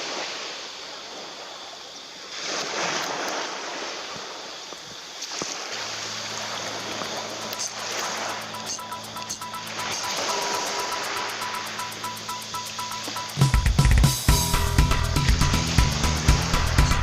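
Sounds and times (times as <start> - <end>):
waves breaking on a beach: 0.0 - 14.3.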